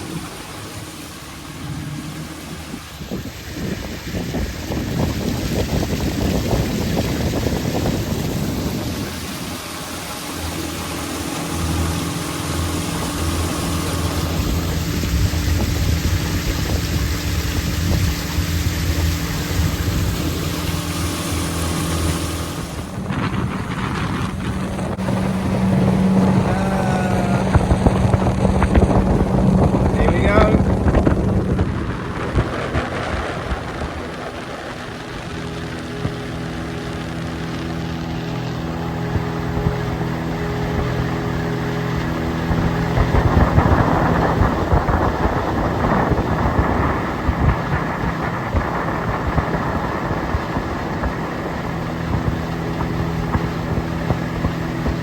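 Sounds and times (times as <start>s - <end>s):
outboard motor running: 0.0s - 55.0s
wind noise on microphone: 0.0s - 55.0s.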